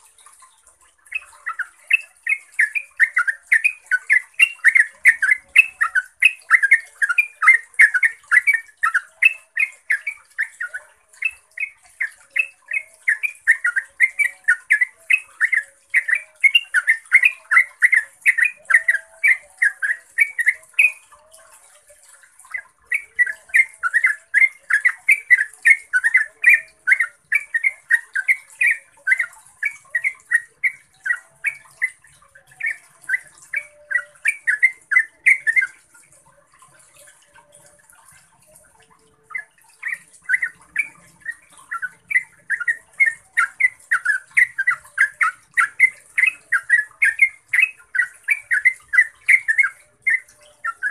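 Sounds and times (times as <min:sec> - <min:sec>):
bulbul singing quick repeated notes: 0:00.0 - 0:50.9.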